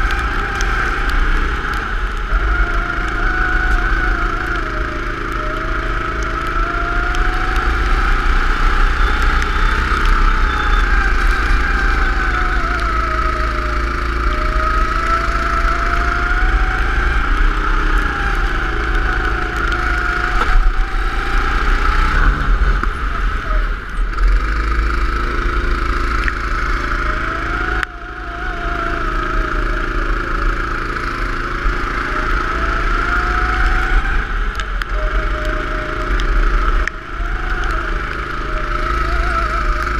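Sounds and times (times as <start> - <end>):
go-kart engine revving: 0.0 - 39.9
heavy low rumble: 0.0 - 39.9.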